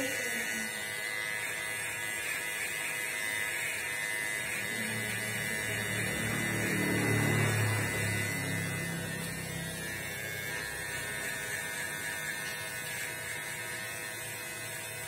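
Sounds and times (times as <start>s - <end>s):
electric hair clippers running: 0.0s - 15.0s.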